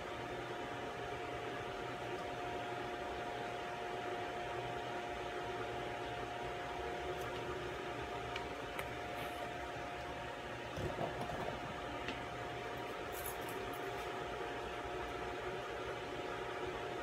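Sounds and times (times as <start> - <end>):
appliance whirring hum: 0.0 - 17.0.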